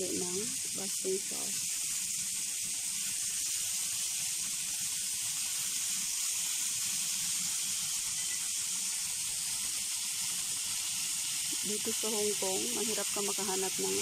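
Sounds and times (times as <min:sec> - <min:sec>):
chicken sizzling on a grill pan: 0:00.0 - 0:14.0.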